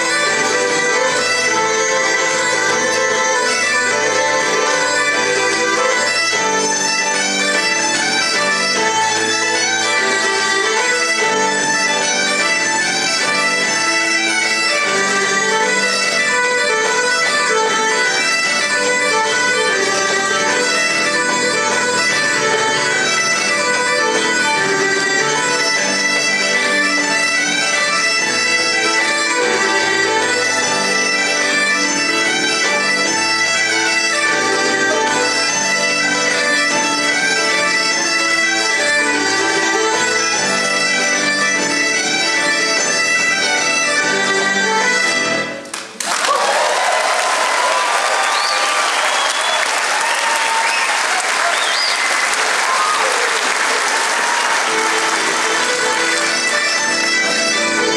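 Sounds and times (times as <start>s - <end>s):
bagpipes playing over drone: 0.0s - 45.6s, 54.6s - 57.9s
fiddle: 0.0s - 46.0s, 52.7s - 57.9s
keyboard backing: 0.0s - 46.0s, 52.0s - 57.9s.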